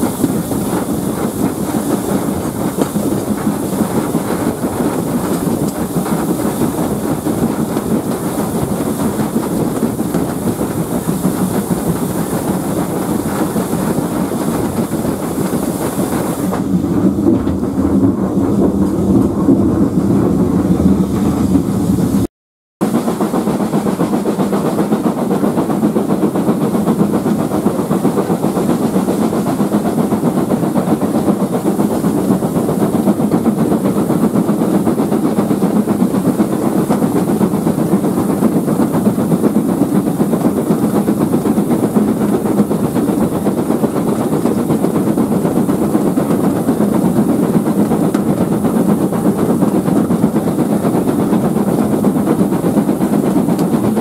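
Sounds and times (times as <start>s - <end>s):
rushing air: 0.0s - 54.0s
steam locomotive exhaust: 0.0s - 54.0s
train wheels on rails: 0.0s - 54.0s.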